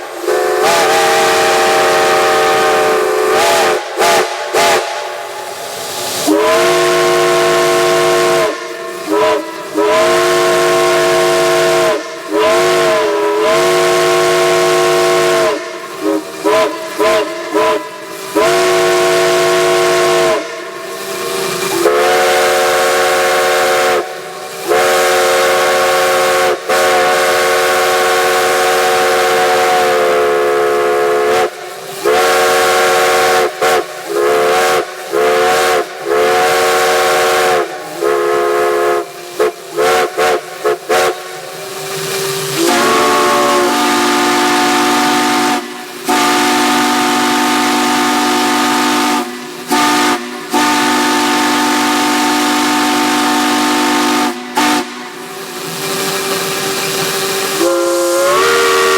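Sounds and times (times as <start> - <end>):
deep steam whistle: 0.0 - 58.9
high steam whistle blasts: 0.0 - 58.9
steam hiss: 0.0 - 58.9.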